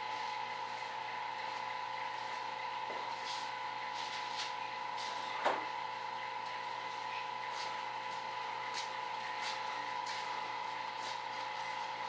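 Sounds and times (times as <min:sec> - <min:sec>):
machine hum with faint whine: 0:00.0 - 0:12.0.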